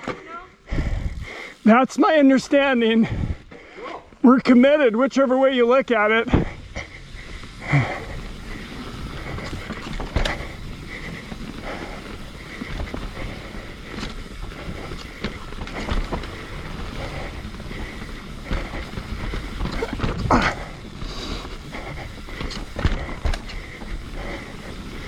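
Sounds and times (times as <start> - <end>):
bike knocking and rattling: 0.0 - 1.4, 6.0 - 25.0
bike tyres on dirt trail: 0.0 - 25.0.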